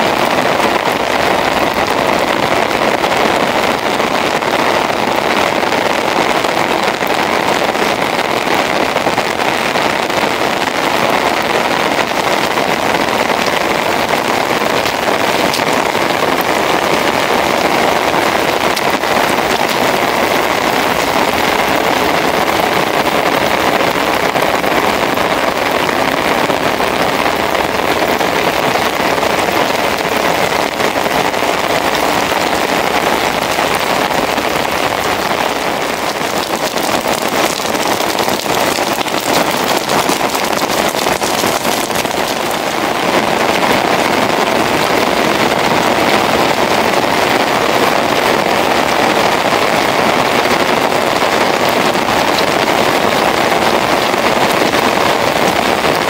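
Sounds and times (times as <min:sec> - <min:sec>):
rain falling on puddles: 0:00.0 - 0:56.0.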